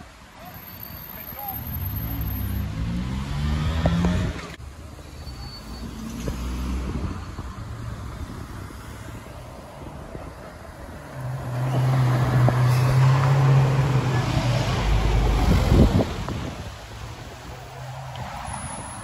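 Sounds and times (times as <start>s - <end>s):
city traffic: 0.0s - 19.0s.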